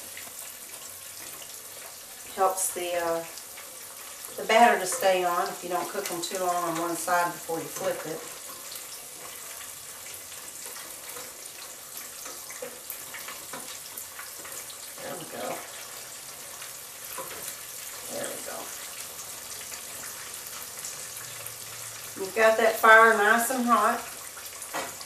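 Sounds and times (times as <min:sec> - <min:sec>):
fish sizzling in a skillet: 0:00.0 - 0:25.0.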